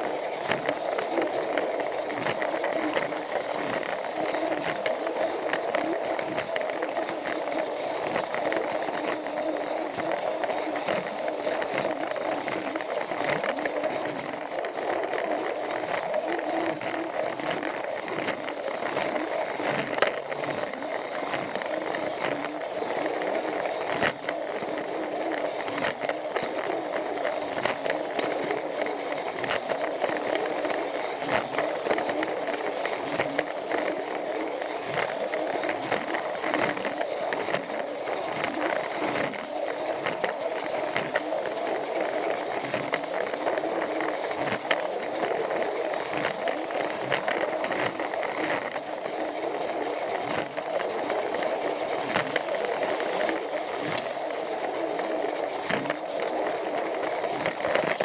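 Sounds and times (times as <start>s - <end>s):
toy train motor whirring: 0.0s - 58.0s.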